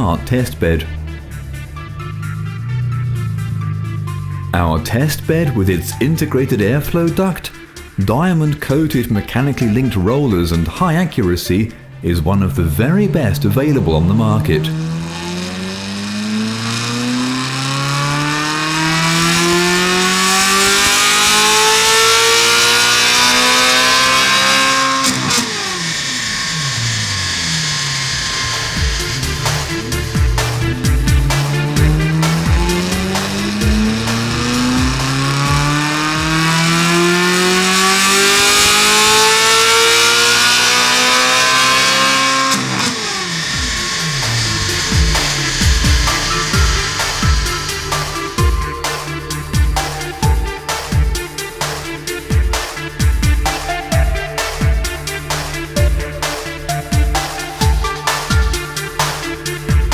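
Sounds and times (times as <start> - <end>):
car engine revving on a dyno: 0.0 - 5.4, 13.6 - 59.9
exhaust pops: 0.0 - 59.9.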